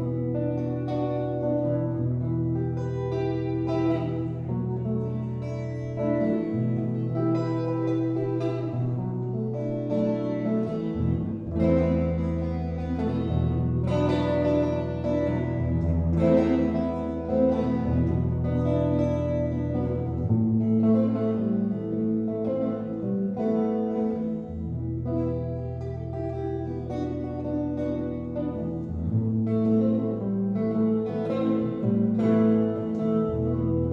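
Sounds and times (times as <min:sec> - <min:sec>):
electric guitar playing: 0:00.0 - 0:33.9.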